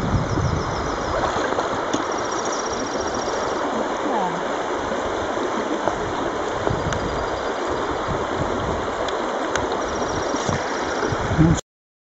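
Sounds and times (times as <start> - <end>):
river water rushing: 0.0 - 11.6.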